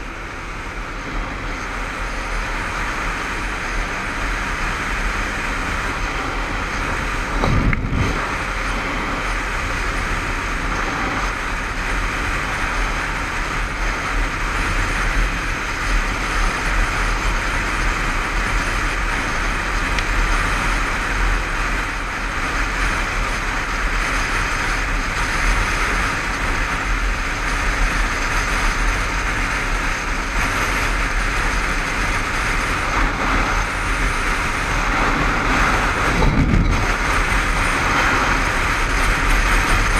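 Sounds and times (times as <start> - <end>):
motorcycle engine running: 0.0 - 39.9
road noise: 0.0 - 39.9
wind rush on microphone: 0.0 - 39.9.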